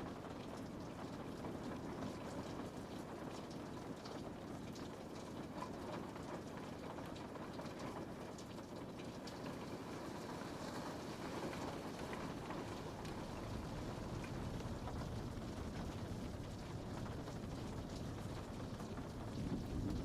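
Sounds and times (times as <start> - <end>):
rain pattering on a window: 0.0 - 20.0.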